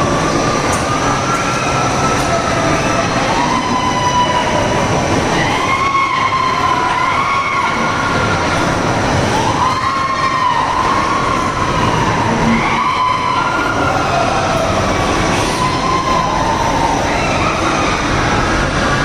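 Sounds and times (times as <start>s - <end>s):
amusement ride rumbling: 0.0s - 19.0s.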